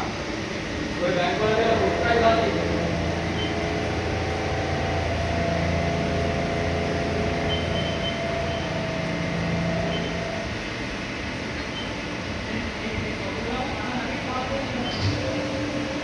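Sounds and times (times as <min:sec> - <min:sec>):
milling machine humming tones: 0:00.0 - 0:16.0.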